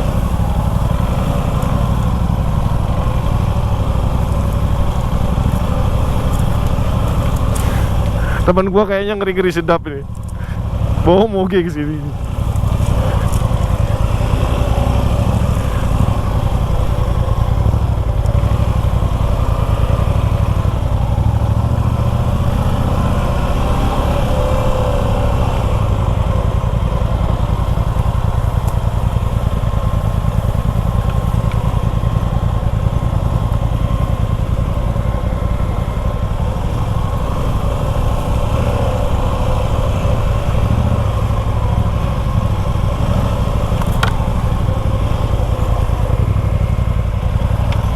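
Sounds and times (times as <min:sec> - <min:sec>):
motorcycle engine running: 0:00.0 - 0:47.9
road and wind rumble: 0:00.0 - 0:47.9.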